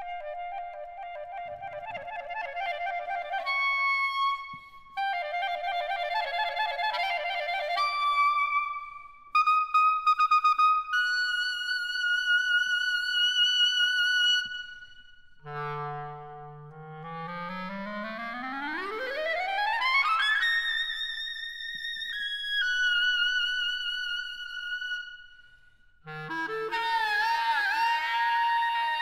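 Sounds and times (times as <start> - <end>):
solo clarinet playing: 0.0 - 14.7, 15.4 - 21.3, 26.0 - 29.0.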